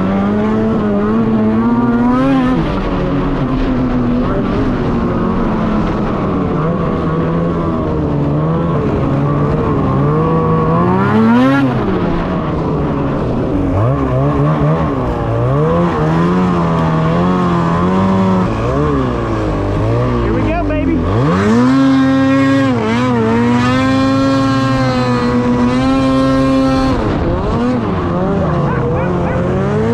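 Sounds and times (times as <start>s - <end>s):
snowmobile engine: 0.0s - 29.9s.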